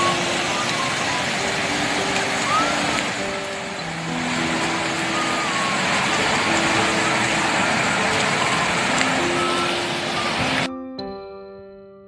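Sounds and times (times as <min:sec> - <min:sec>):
floodwater rushing: 0:00.0 - 0:10.7.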